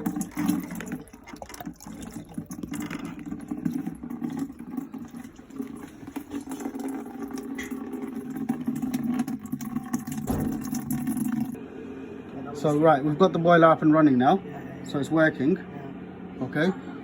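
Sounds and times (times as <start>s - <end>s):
boiler fan and burner hum: 0.0s - 17.0s.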